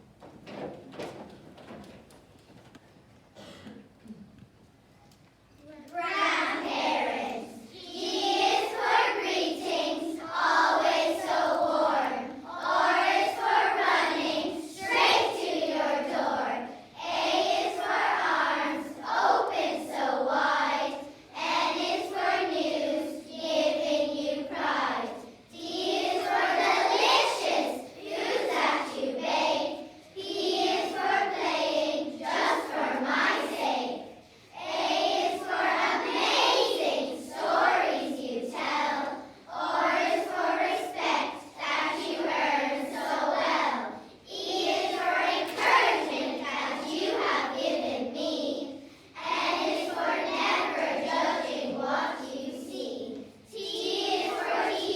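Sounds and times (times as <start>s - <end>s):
girls reciting in unison: 5.6s - 54.9s.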